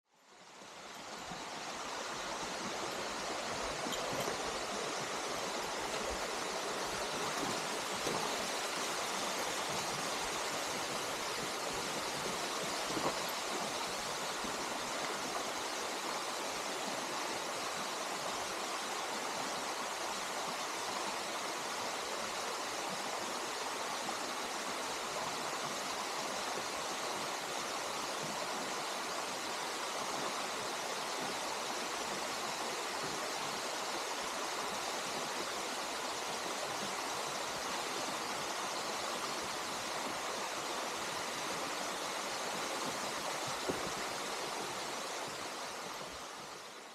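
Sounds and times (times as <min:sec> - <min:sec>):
waterfall and stream rushing: 0:00.1 - 0:46.9.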